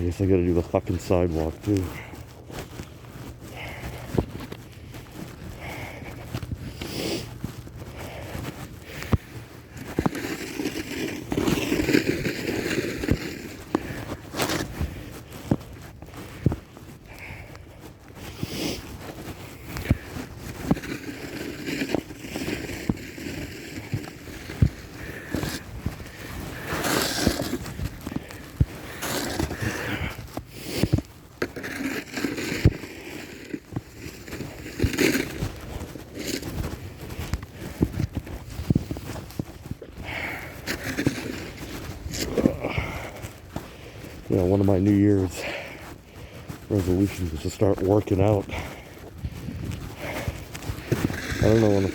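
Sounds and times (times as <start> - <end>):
footsteps: 0.0 - 51.9
snow shovel scraping pavement: 0.0 - 51.9.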